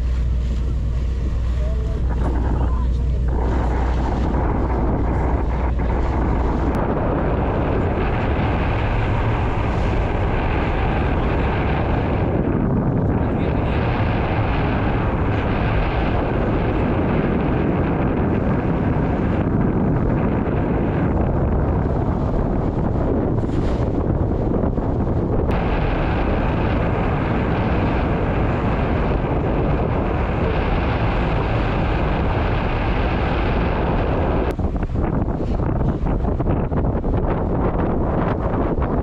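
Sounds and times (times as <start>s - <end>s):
boat engine running: 0.0s - 39.0s
water rushing past hull: 0.0s - 39.0s
wind buffeting microphone: 0.0s - 39.0s.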